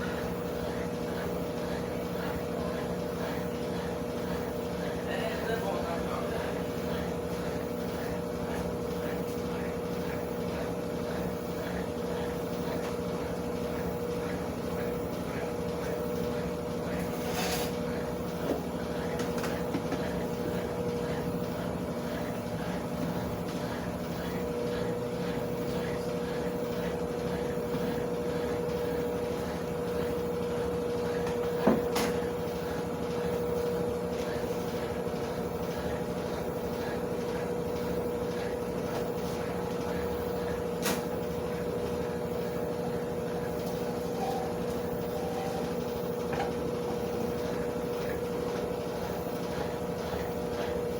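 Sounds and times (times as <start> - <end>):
washing machine humming: 0.0 - 50.9.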